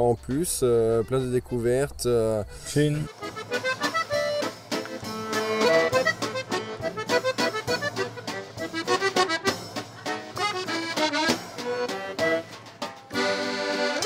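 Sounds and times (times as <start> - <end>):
instrumental background music: 0.0 - 14.0.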